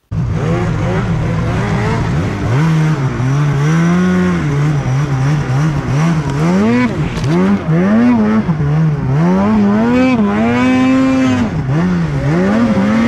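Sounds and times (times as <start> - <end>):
snowmobile engine under throttle: 0.0 - 13.0.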